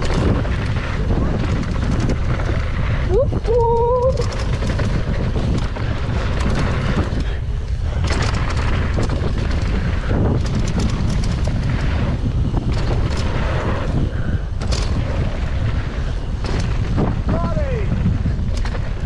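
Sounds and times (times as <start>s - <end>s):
bike rattling over bumps: 0.0s - 19.0s
knobby tyres on dirt: 0.0s - 19.0s
wind buffeting microphone: 0.0s - 19.0s.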